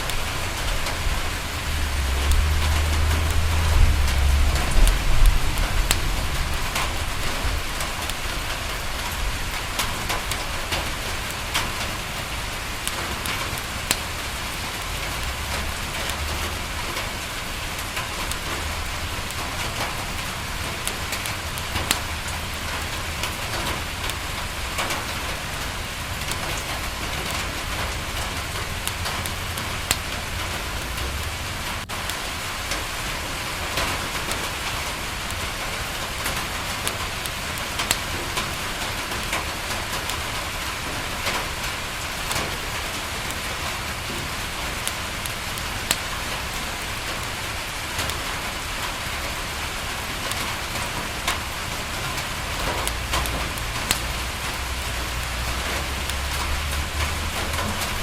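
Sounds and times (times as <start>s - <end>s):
rain on a window: 0.0s - 58.0s
wood fire crackling: 0.0s - 58.0s.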